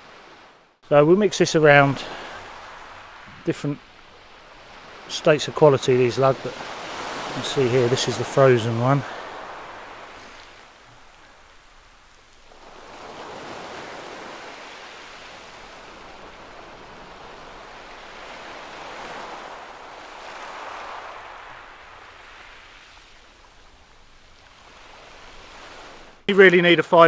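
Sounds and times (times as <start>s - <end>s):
sea waves washing on beach: 0.0s - 26.3s.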